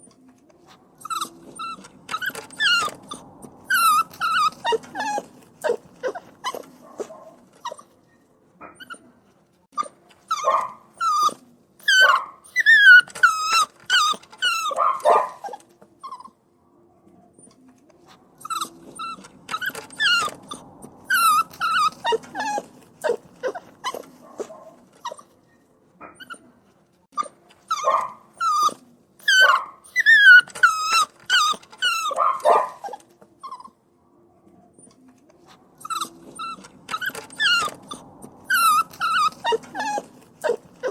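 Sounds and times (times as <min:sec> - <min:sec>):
puppy whining and crying: 0:00.0 - 0:16.4, 0:18.4 - 0:25.4, 0:26.0 - 0:26.5, 0:27.1 - 0:33.8, 0:34.8 - 0:40.9.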